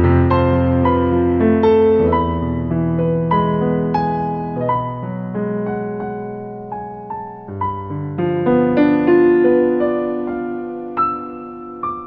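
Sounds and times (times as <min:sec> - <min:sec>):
slow solo piano music: 0:00.0 - 0:12.0.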